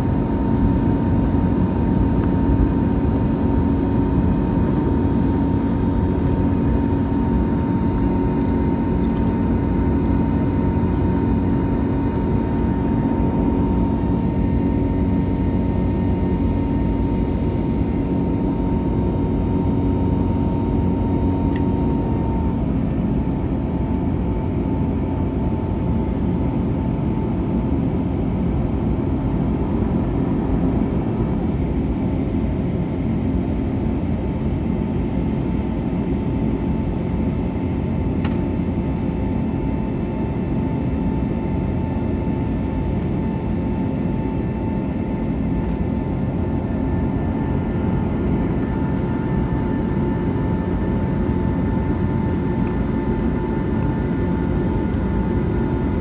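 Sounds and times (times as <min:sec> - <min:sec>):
airplane cabin engine rumble: 0:00.0 - 0:56.0
constant hum: 0:00.0 - 0:56.0.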